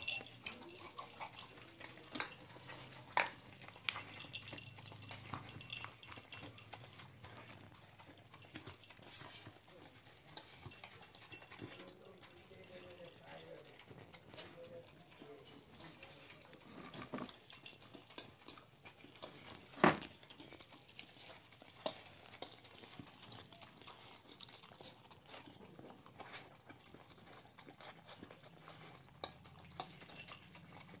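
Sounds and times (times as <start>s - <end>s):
puppy licking and chewing: 0.0s - 31.0s.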